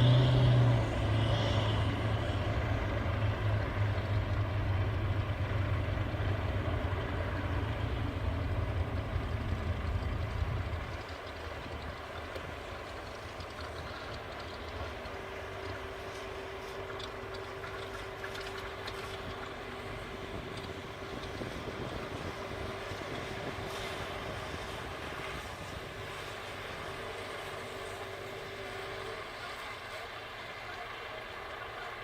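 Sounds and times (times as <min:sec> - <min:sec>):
engine-like rumble: 0:00.0 - 0:32.0.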